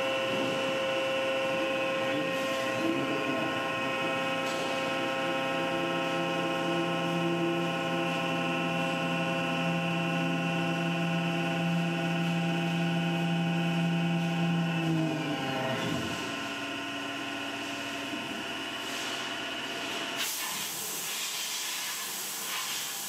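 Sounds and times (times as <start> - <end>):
low machine tone: 0.0 - 20.2
milling machine whine: 0.0 - 20.3.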